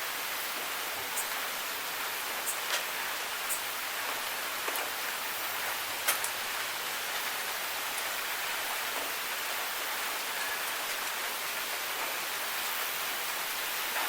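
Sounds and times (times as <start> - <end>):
rain drops ticking: 0.0 - 14.0
rain falling: 0.0 - 14.0.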